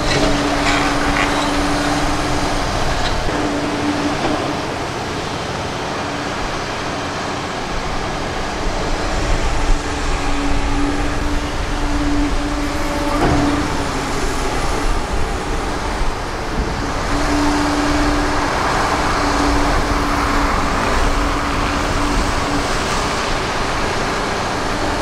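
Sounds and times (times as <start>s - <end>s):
demolition rumble: 0.0s - 25.0s
excavator engine under load: 0.0s - 25.0s.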